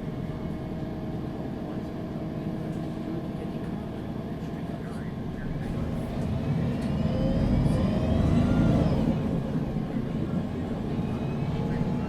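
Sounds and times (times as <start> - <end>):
bus engine accelerating: 0.0 - 12.0.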